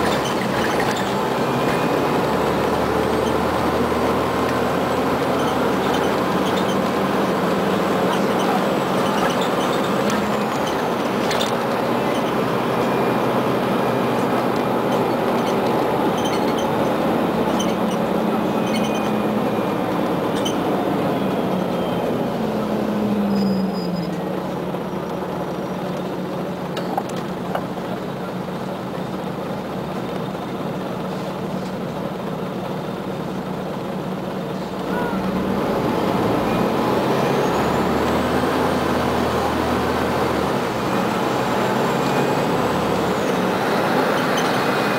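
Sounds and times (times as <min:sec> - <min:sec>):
bus diesel engine droning: 0:00.0 - 0:44.9.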